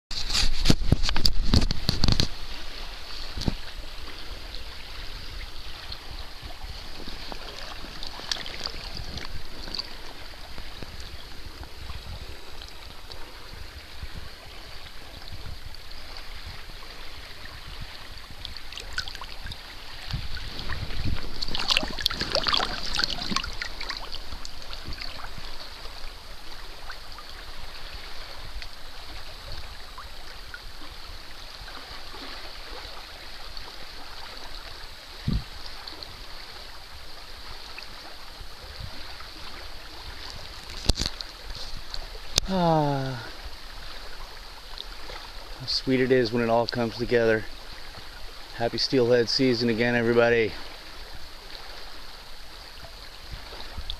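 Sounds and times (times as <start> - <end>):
river water rippling: 0.1 - 53.9
water splashing: 0.1 - 53.9.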